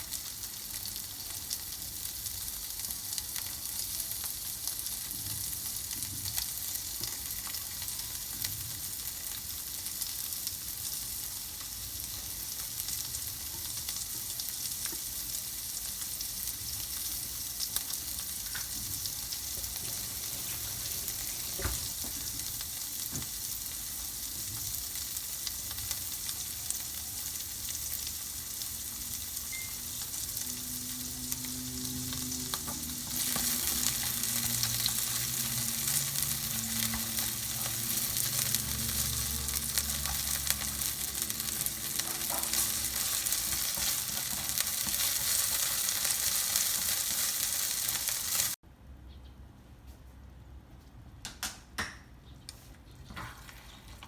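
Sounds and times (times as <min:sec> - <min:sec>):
food sizzling in a frying pan: 0:00.0 - 0:48.6.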